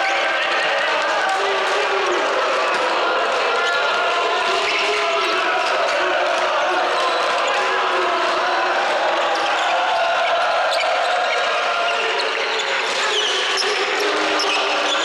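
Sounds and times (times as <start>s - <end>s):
murmur of voices: 0.0s - 15.0s.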